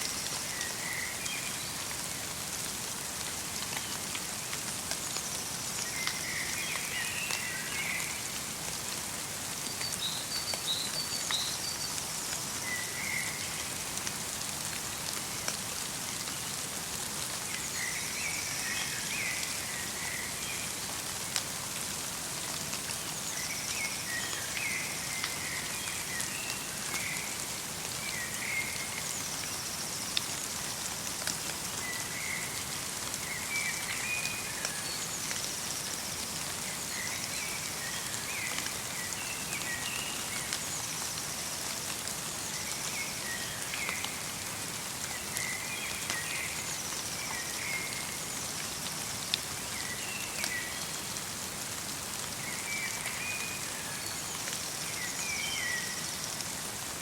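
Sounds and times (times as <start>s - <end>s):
light rain hissing: 0.0s - 57.0s.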